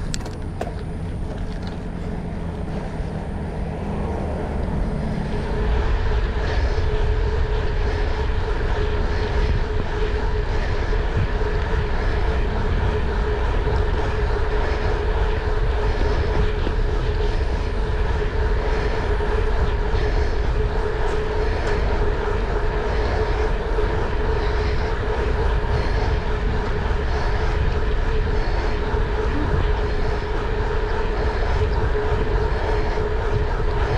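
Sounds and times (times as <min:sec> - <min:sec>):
engine drone: 0:00.0 - 0:33.9.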